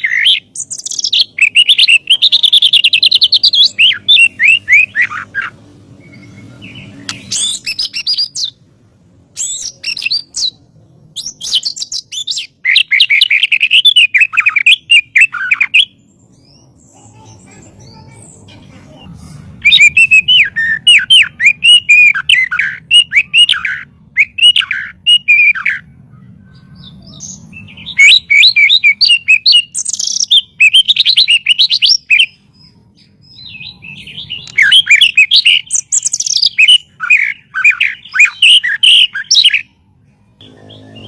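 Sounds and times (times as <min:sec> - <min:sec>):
bird singing whistled notes: 0:00.0 - 0:08.6, 0:09.4 - 0:10.6, 0:11.2 - 0:16.7, 0:19.7 - 0:25.9, 0:26.5 - 0:32.4, 0:33.0 - 0:39.8.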